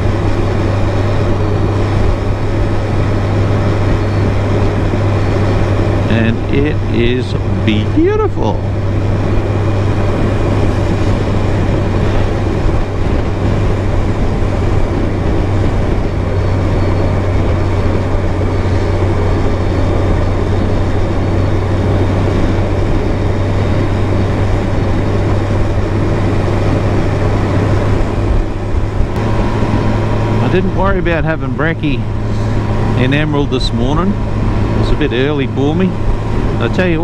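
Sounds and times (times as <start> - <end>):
motorcycle engine cruising: 0.0 - 37.0
wind noise: 0.0 - 37.0.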